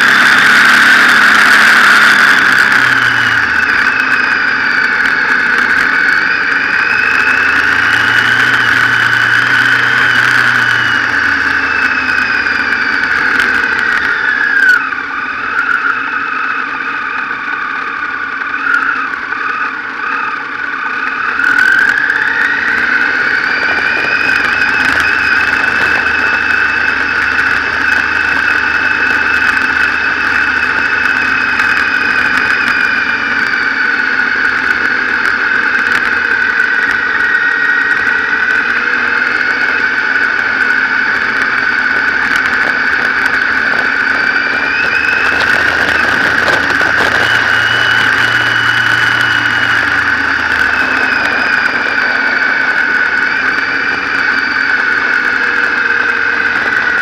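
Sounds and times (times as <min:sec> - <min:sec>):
motorcycle engine revving: 0:00.0 - 0:57.0
steady high whine: 0:00.0 - 0:57.0.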